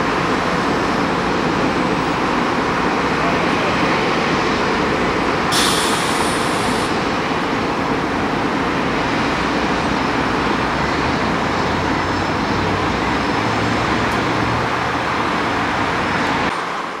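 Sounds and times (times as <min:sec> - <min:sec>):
jet engine roar at takeoff: 0:00.0 - 0:17.0.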